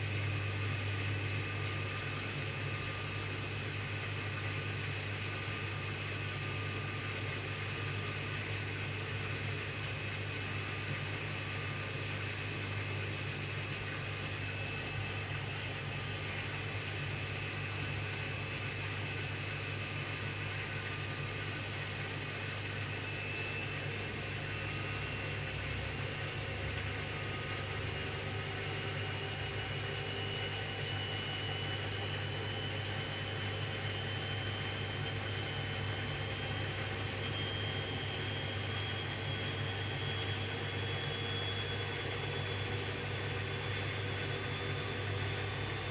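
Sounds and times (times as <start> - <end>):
washing machine spinning: 0.0 - 45.9.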